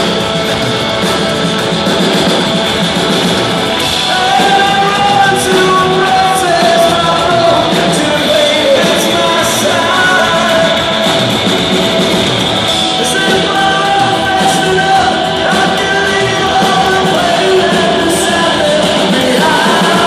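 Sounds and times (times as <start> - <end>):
drums: 0.0 - 20.0
guitar: 0.0 - 20.0
lead vocals: 0.0 - 20.0
live rock band: 0.0 - 20.0.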